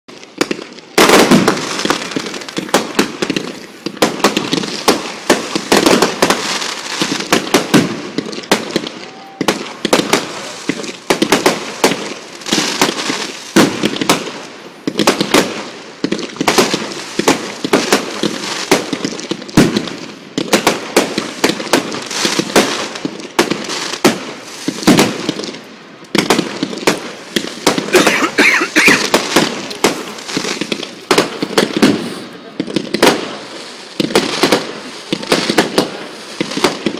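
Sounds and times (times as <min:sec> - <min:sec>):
fireworks bangs and crackling: 0:00.1 - 0:36.9.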